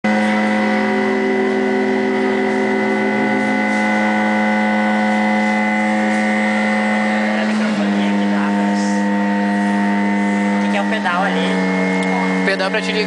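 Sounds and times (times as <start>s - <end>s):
electronic drone with held tones: 0.0s - 13.0s.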